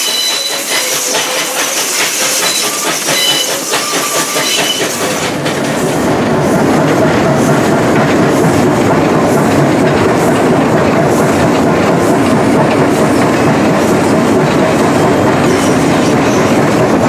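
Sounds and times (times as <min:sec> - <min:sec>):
steam locomotive cab running noise: 0:00.0 - 0:17.0.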